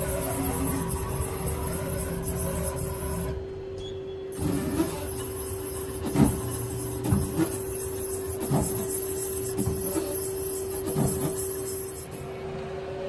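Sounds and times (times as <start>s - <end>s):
lathe humming with high whine: 0.0s - 13.0s.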